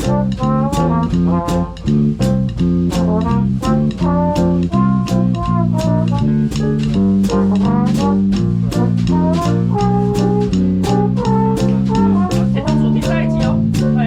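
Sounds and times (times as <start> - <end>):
brass melody: 0.0 - 14.0
drum kit beat: 0.0 - 14.0
walking bass line: 0.0 - 14.0.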